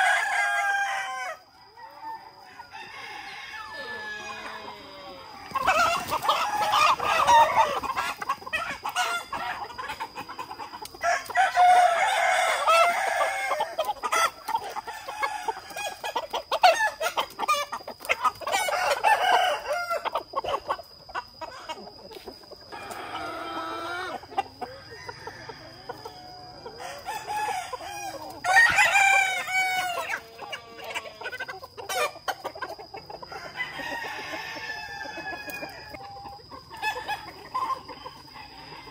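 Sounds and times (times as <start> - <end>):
chickens clucking: 0.0 - 38.9
roosters crowing: 0.0 - 38.9.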